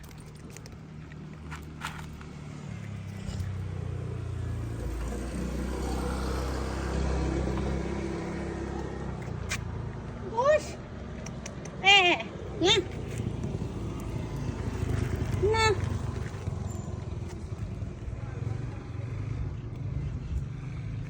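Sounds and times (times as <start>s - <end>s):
motor vehicle passing by: 0.7s - 21.0s.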